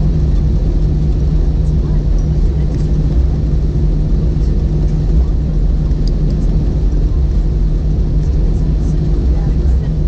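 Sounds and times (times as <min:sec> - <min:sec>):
aircraft engines idling: 0:00.0 - 0:10.0.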